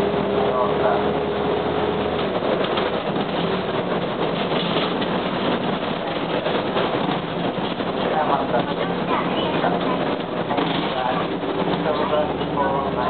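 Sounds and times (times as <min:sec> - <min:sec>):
bus diesel engine: 0:00.0 - 0:13.0
road noise: 0:00.0 - 0:13.0.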